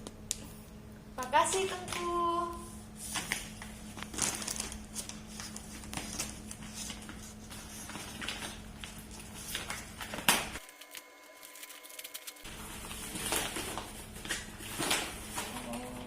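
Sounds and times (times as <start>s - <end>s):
wrapping paper rustling: 1.5s - 16.0s.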